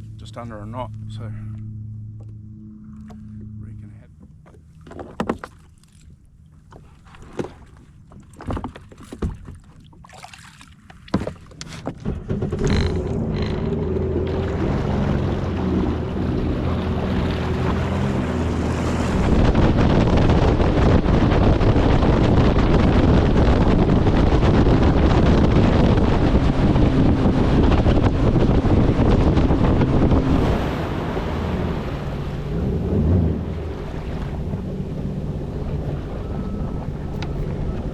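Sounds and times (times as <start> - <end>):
jet ski engine: 0.0 - 9.5, 10.6 - 37.9
wind and water rush: 6.8 - 37.9.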